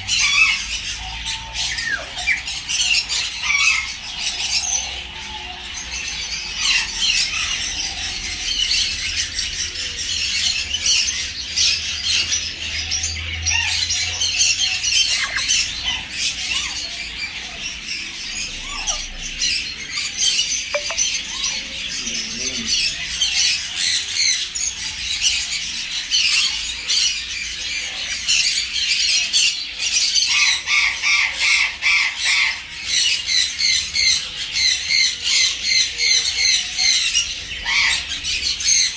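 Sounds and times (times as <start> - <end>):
lories squawking and chattering: 0.0 - 38.9.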